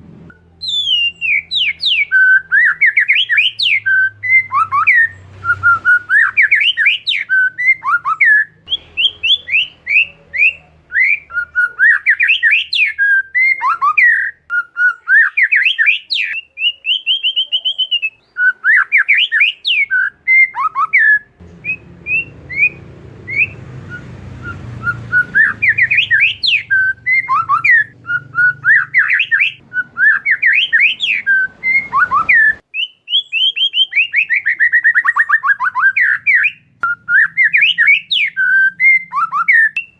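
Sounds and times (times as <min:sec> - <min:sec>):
songbird whistling song: 0:00.3 - 0:39.9.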